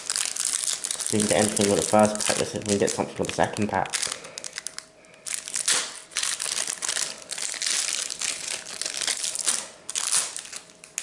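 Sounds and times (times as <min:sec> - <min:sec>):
foil wrapper tearing and crinkling: 0:00.0 - 0:11.0.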